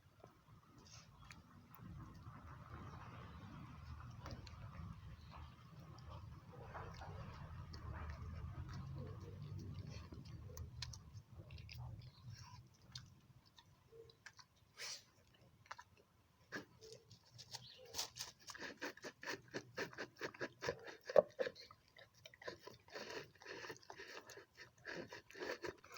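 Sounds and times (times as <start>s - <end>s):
dog crunching food: 3.9s - 25.9s.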